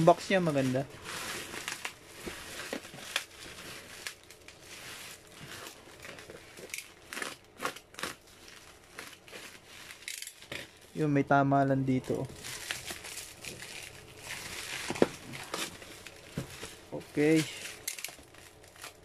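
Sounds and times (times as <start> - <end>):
plastic bag and bubble wrap crinkling: 0.0 - 19.0.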